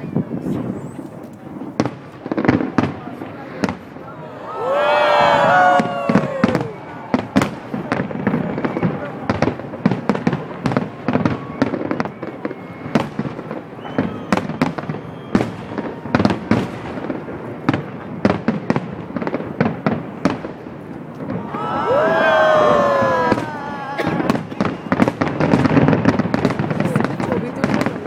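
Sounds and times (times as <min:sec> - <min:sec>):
fireworks bangs and crackles: 0:00.0 - 0:28.0
fireworks whistling: 0:00.0 - 0:28.0.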